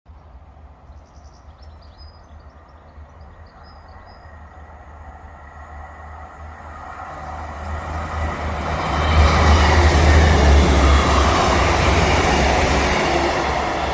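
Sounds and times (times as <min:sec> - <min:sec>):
diesel trains approaching: 0:02.2 - 0:13.9
faint rail tone: 0:02.3 - 0:13.9.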